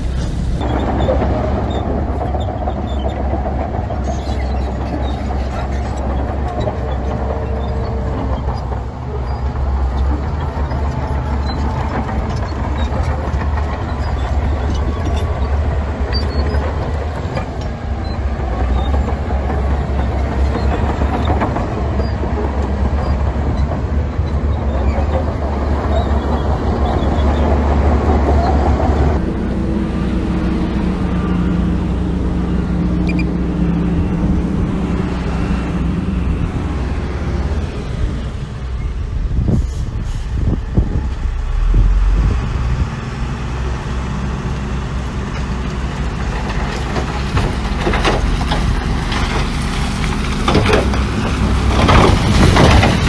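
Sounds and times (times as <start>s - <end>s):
diesel machinery rumbling and clattering: 0.0s - 53.0s.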